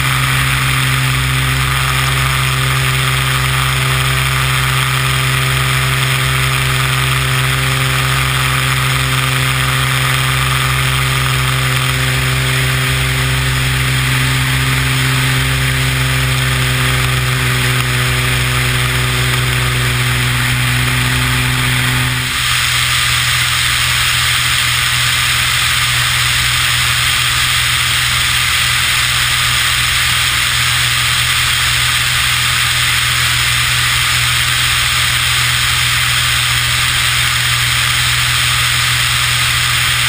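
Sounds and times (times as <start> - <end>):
airflow rushing over wing: 0.0 - 40.0
propeller engine droning: 0.0 - 40.0.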